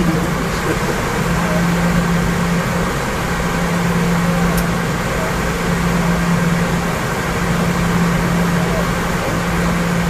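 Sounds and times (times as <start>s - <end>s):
jet engines and airflow rush: 0.0s - 10.0s
steady low hum: 0.0s - 10.0s.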